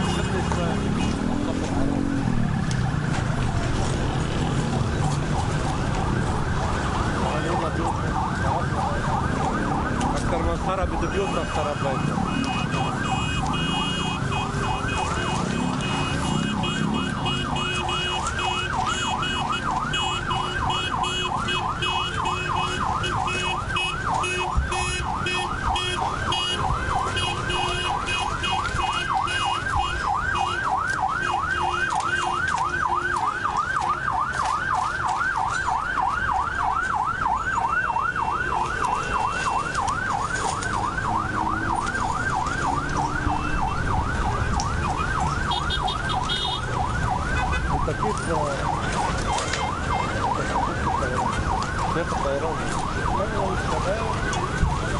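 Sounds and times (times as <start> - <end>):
emergency siren yelping: 0.0 - 54.9.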